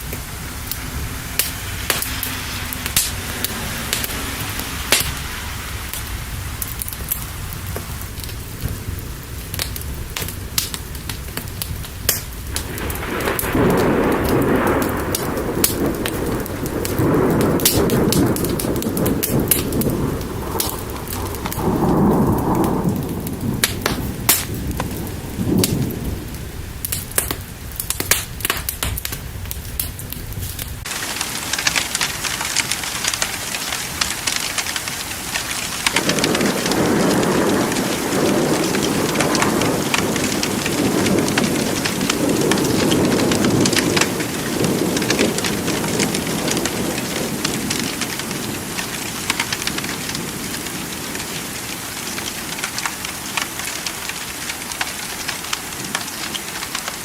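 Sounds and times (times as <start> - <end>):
rolling thunder: 0.0 - 52.6
steady rain: 0.0 - 57.0.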